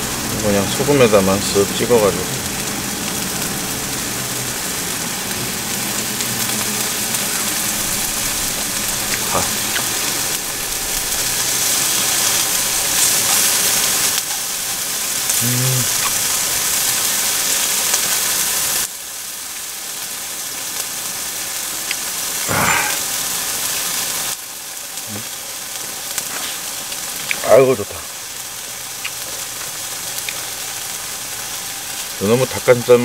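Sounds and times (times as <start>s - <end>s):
beef sizzling in a pan: 0.0s - 33.0s.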